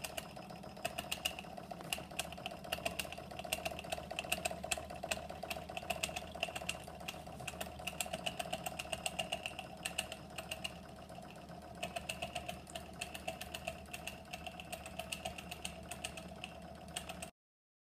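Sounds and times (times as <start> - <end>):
model engine mechanical clicking: 0.0 - 17.3.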